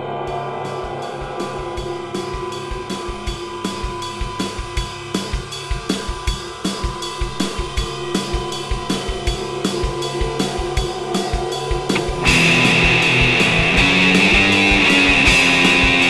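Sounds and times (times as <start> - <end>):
drum kit beat: 0.0 - 16.0
sustained held notes: 0.0 - 16.0.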